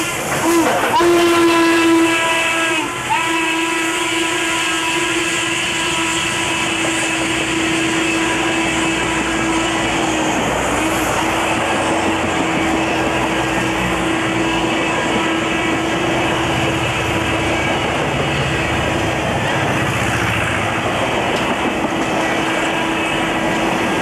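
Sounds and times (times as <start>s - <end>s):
steam locomotive whistle: 0.0s - 20.0s, 22.2s - 24.0s
train cars rumbling past: 0.0s - 24.0s.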